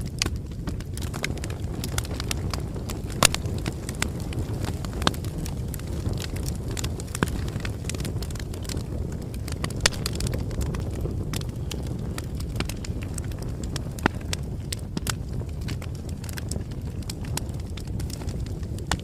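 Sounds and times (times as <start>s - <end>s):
campfire crackling: 0.0s - 19.0s
sharp pops of fire: 0.0s - 19.0s
low rumble: 3.1s - 18.6s.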